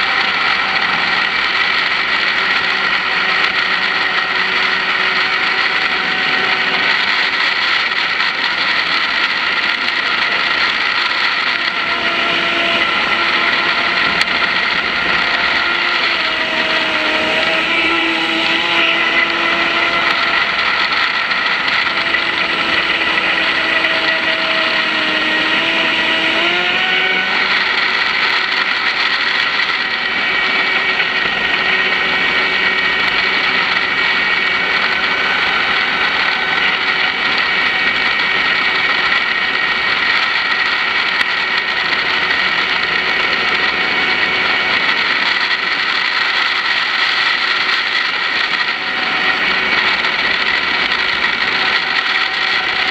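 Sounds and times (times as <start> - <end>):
electric motor whine: 0.0 - 52.9
water rushing: 0.0 - 52.9.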